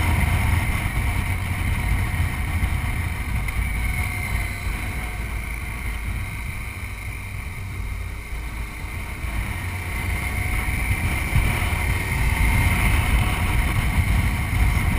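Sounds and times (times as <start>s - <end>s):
motorcycle engine drone: 0.0s - 14.9s
wind rumble on microphone: 0.0s - 14.9s.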